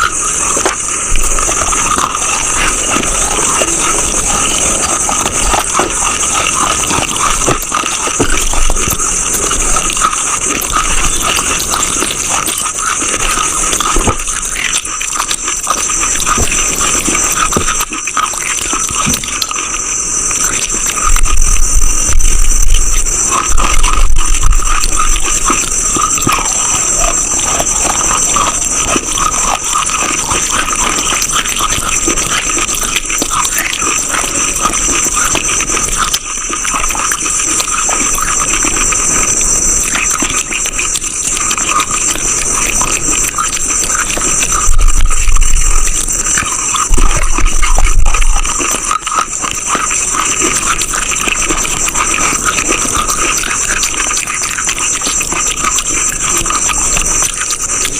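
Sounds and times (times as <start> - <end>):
brittle chalky material crunching: 0.0 - 57.9.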